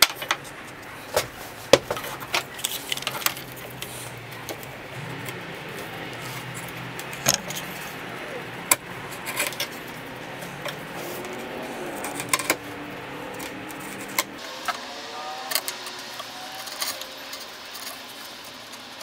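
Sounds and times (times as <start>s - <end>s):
wood pieces and tools clicking: 0.0s - 19.0s
low hum: 3.1s - 19.0s.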